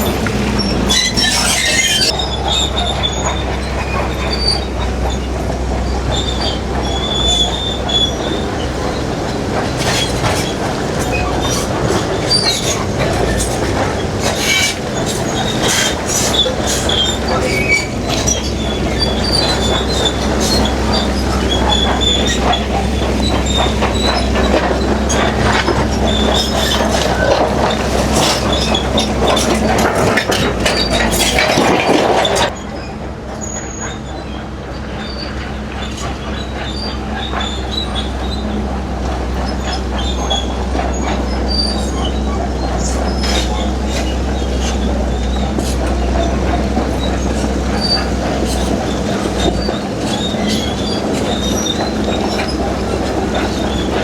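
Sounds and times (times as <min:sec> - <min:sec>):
bulldozer diesel engine: 0:00.0 - 0:54.0
steel tracks clanking and squealing: 0:00.0 - 0:54.0.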